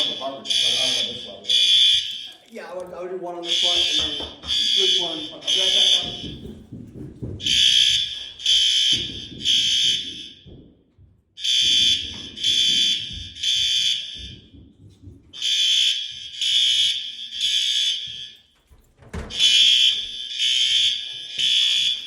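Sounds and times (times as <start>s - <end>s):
fire alarm tone pulses: 0.0s - 2.8s, 3.4s - 6.7s, 7.4s - 10.7s, 11.4s - 14.7s, 15.3s - 22.0s.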